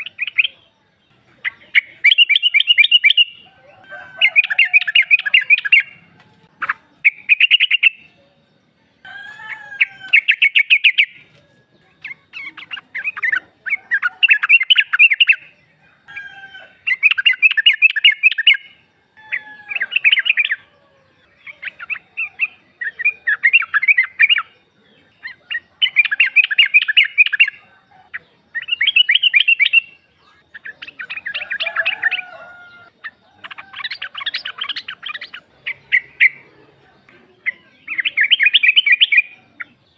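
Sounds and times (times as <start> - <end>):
bulbul chattering call: 0.0 - 8.4, 9.0 - 39.9.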